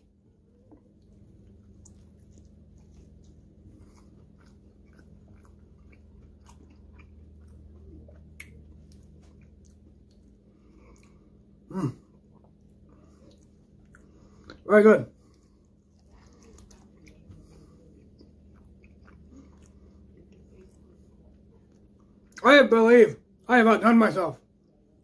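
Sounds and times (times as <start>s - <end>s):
man chewing crunchy food: 0.1s - 22.4s.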